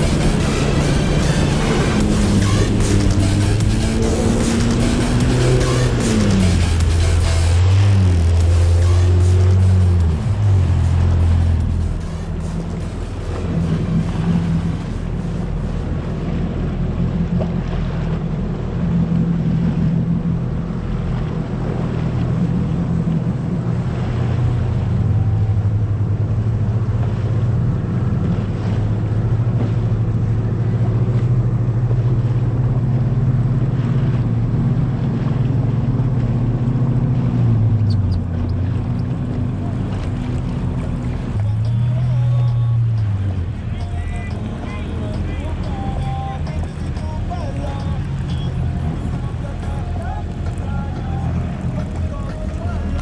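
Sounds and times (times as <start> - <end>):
jet ski engine running: 0.0 - 53.0
wind and water rush: 0.0 - 53.0.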